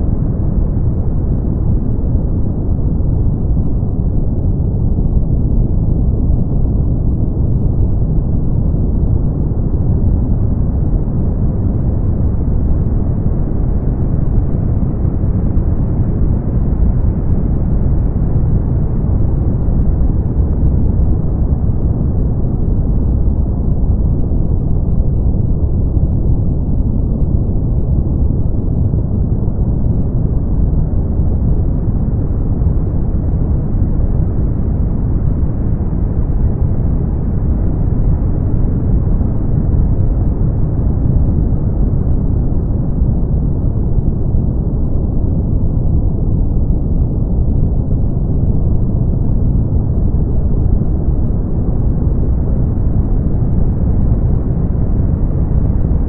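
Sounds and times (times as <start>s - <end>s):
brown noise rumbling hiss: 0.0s - 56.0s.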